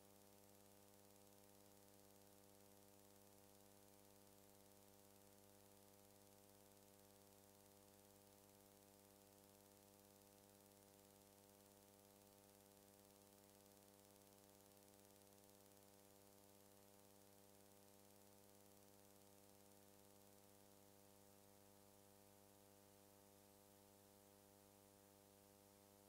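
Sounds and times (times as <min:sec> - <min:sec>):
faint electrical hum with hiss: 0:00.0 - 0:26.0.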